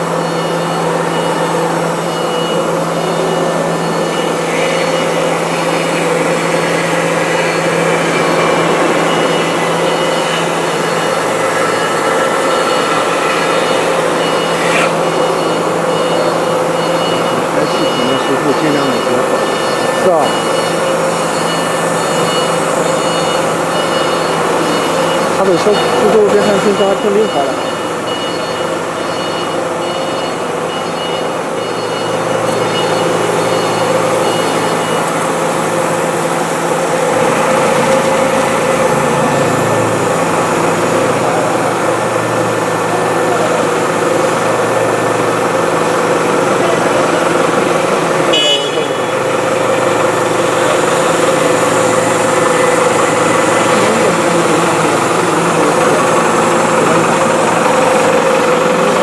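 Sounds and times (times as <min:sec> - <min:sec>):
spindle whine: 0:00.0 - 0:59.0.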